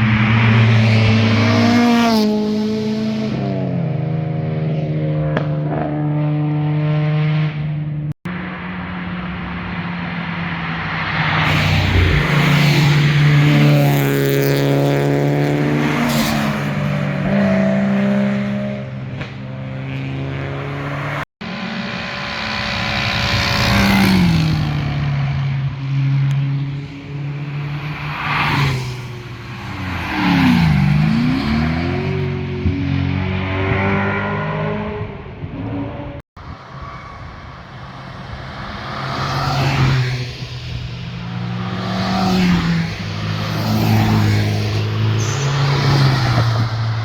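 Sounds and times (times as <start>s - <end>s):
cars revving past: 0.0s - 7.6s, 8.3s - 47.0s.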